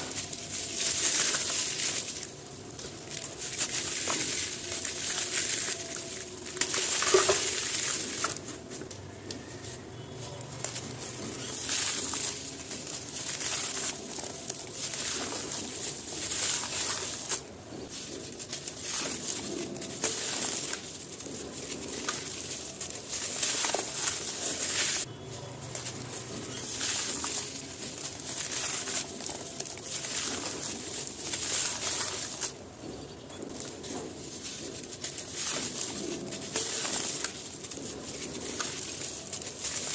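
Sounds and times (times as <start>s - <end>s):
gritty material crunching by hand: 0.0s - 39.9s.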